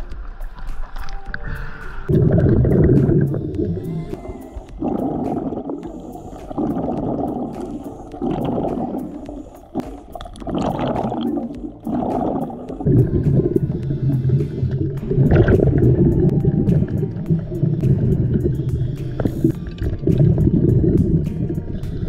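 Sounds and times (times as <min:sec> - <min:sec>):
steady low rumble: 0:02.0 - 0:21.7
underwater bubbles rumbling: 0:02.1 - 0:22.0.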